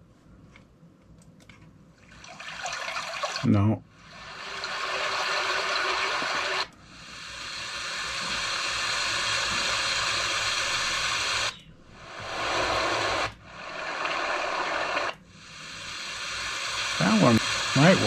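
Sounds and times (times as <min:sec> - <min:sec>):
running water hiss: 0:02.1 - 0:18.0.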